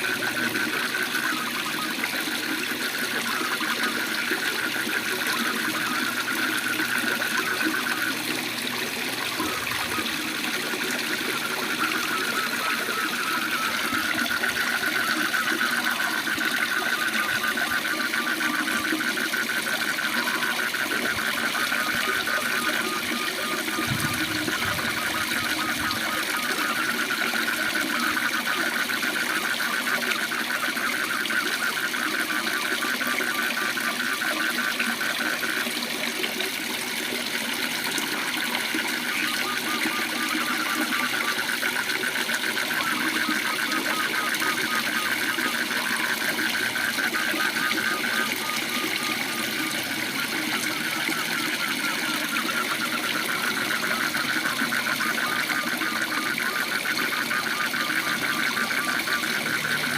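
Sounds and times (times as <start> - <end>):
frogs trilling: 0.0 - 59.9.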